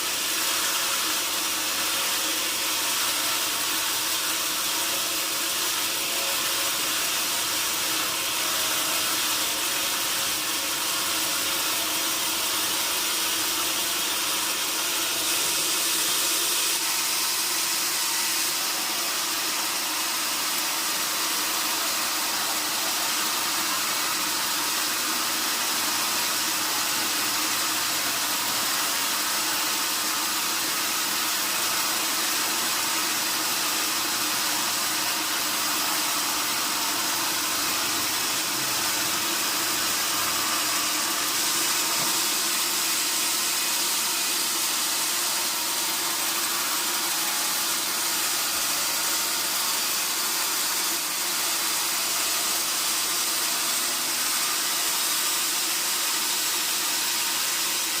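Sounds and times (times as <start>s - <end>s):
sawmill machinery hissing: 0.0s - 58.0s.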